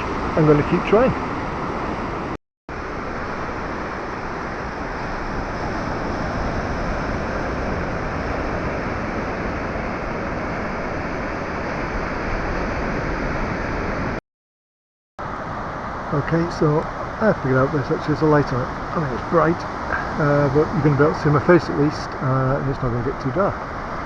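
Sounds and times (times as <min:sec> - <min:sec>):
sea surf washing on beach: 0:00.0 - 0:14.2, 0:15.2 - 0:24.0.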